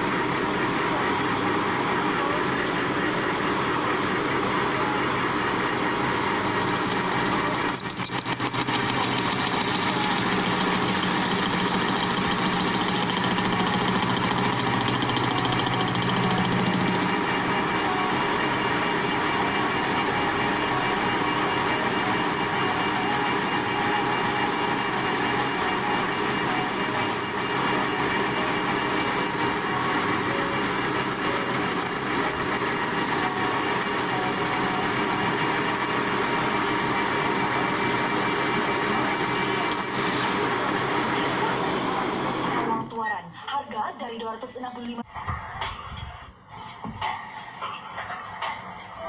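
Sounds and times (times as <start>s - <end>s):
machinery running: 0.0s - 43.0s.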